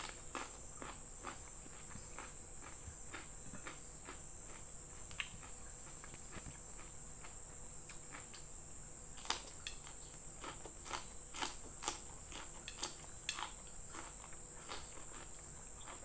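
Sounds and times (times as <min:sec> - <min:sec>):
person chewing food: 0:00.0 - 0:08.5, 0:09.2 - 0:16.0.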